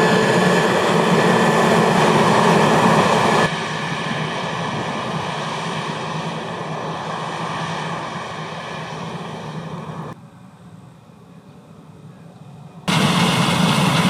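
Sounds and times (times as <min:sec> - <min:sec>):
high machine whine: 0:00.0 - 0:10.2, 0:12.9 - 0:14.0
diesel engine drone: 0:00.0 - 0:14.0.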